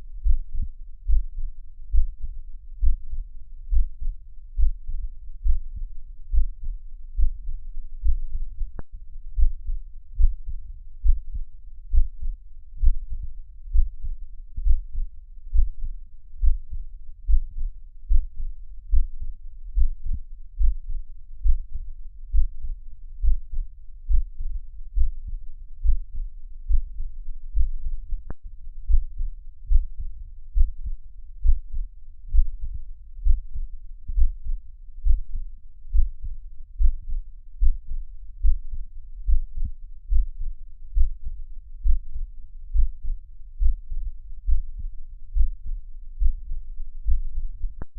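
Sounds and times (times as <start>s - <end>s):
heartbeat thumps: 0.2s - 47.9s.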